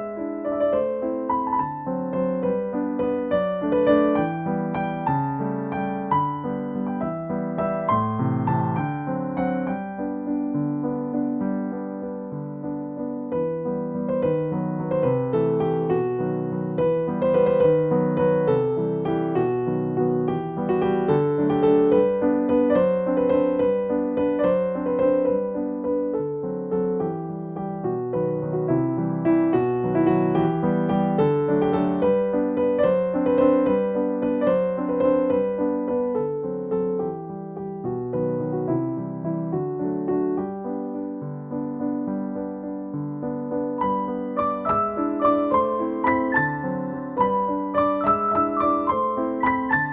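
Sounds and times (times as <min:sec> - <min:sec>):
gentle piano melody: 0:00.0 - 0:49.9.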